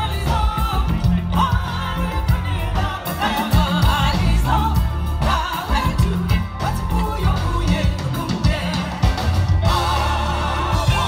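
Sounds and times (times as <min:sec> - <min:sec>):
live band music: 0:00.0 - 0:11.0
women singing: 0:00.0 - 0:11.0.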